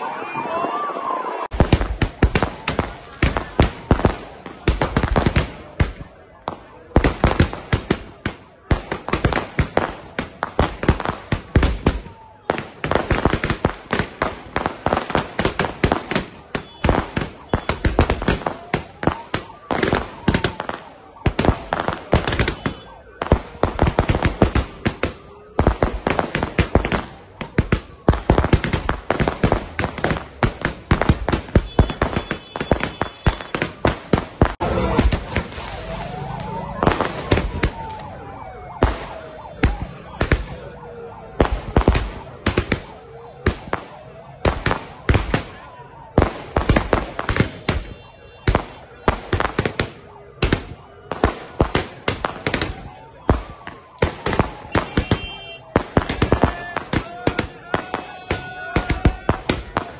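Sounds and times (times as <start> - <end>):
firecrackers cracking: 1.4 - 59.9.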